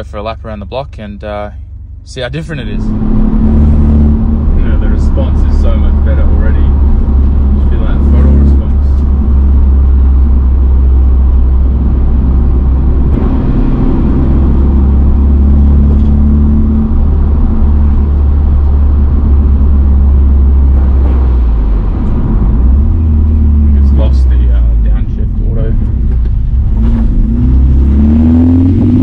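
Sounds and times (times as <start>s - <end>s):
car engine rumble: 0.0s - 29.0s
road noise: 0.0s - 29.0s.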